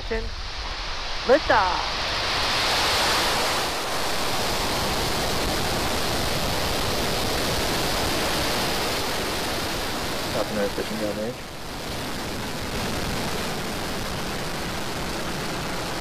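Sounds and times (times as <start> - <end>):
rocket engines roaring: 0.0 - 16.0.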